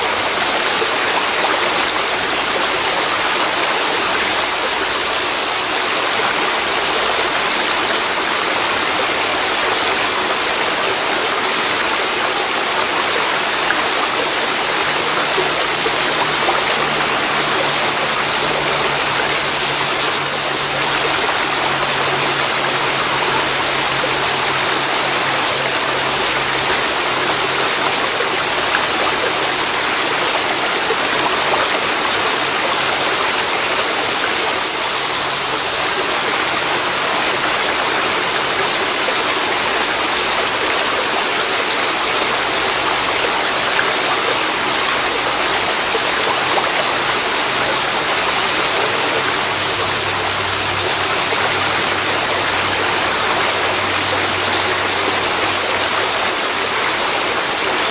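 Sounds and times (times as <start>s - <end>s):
waterfall pouring into river: 0.0s - 57.9s.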